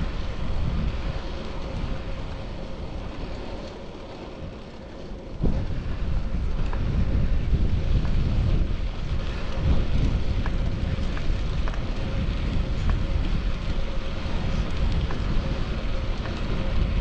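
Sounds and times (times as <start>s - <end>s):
faint ticks: 0.0s - 17.0s
wind buffeting microphone: 0.0s - 17.0s.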